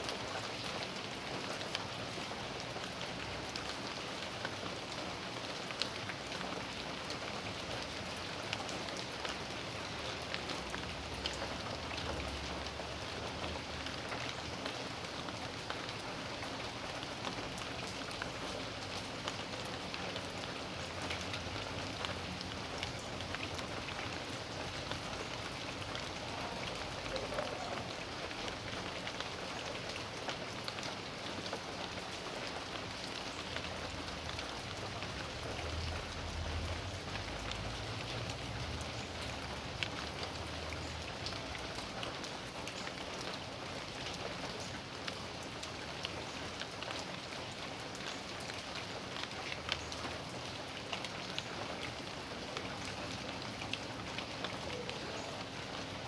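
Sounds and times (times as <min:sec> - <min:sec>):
raindrops tapping on surfaces: 0:00.0 - 0:56.0
steady rain hiss: 0:00.0 - 0:56.0.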